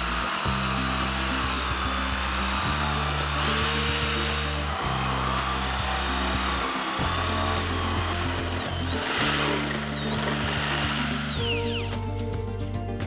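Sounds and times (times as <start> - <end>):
drill boring through wood: 0.0 - 12.1
background music: 0.0 - 13.0.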